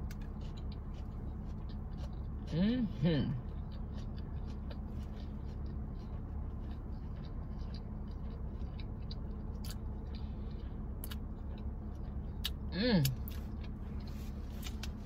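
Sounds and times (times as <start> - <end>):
food crunching: 0.0 - 15.0
low steady hum: 0.0 - 15.0
person chewing food: 0.0 - 15.0.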